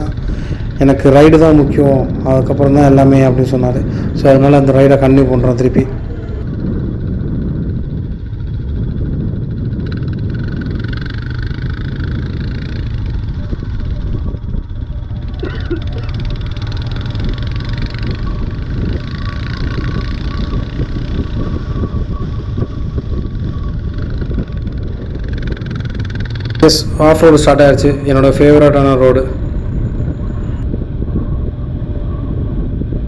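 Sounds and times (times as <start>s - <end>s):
motorcycle exhaust rumble: 0.0s - 33.0s.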